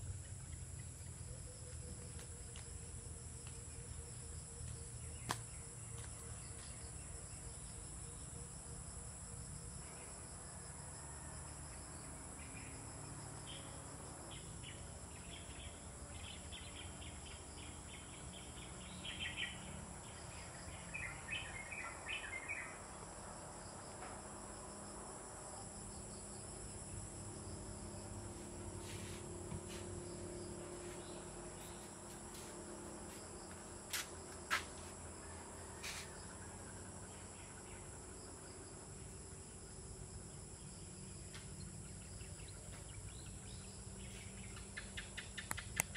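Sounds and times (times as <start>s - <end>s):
insect chorus droning: 0.0s - 45.9s.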